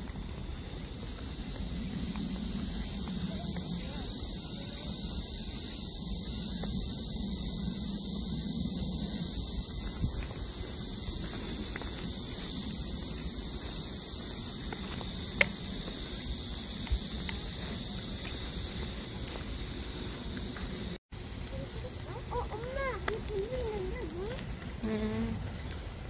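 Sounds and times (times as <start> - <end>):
wind rumble on microphone: 0.0 - 21.0
insects droning: 0.0 - 26.0.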